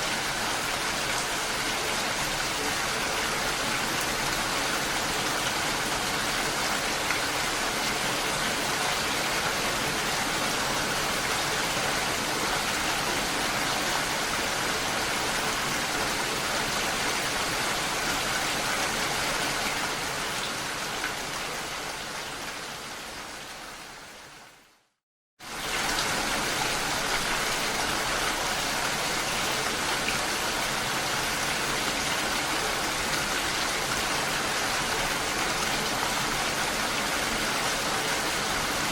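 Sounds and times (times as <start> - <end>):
rushing water: 0.0 - 24.8, 25.4 - 38.9.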